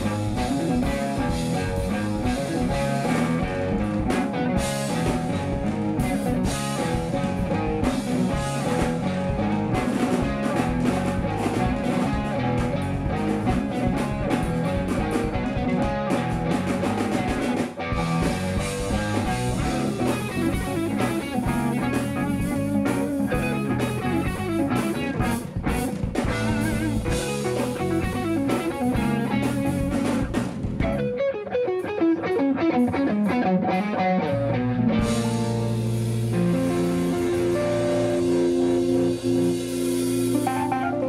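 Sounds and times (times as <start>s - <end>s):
electric bass: 0.0s - 31.2s, 32.3s - 41.0s
keyboard: 0.0s - 31.2s, 34.2s - 41.0s
drum kit: 0.0s - 41.0s
electric guitar: 0.0s - 41.0s.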